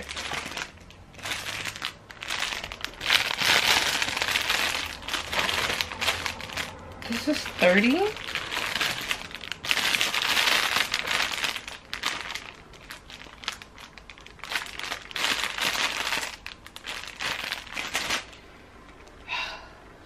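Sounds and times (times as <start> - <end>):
plastic packaging crinkling: 0.0 - 19.1.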